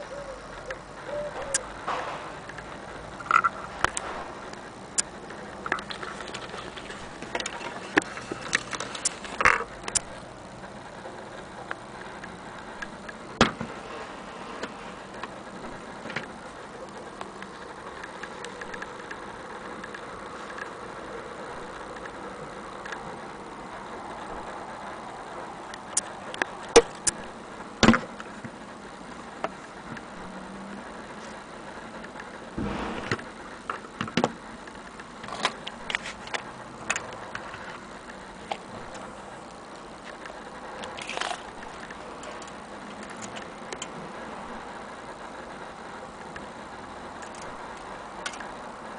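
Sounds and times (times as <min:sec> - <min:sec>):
background hum: 0:00.0 - 0:48.9.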